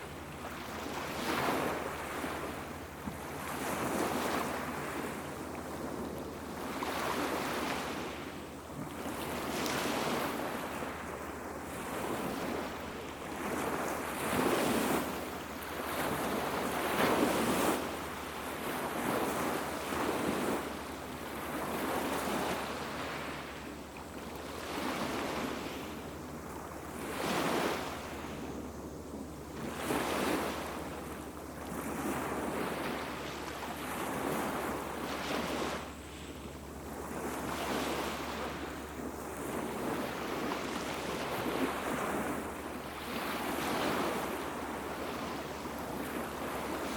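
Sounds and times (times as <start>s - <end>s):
small waves washing onto beach: 0.0s - 46.9s.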